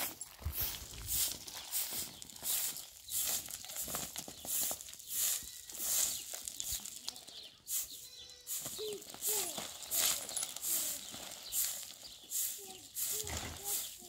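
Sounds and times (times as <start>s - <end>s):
straw broom sweeping gravel: 0.0s - 14.0s.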